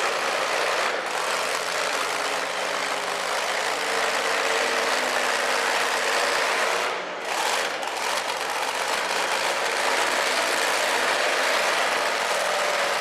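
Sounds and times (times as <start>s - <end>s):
heavy tractor engine running: 0.0s - 13.0s.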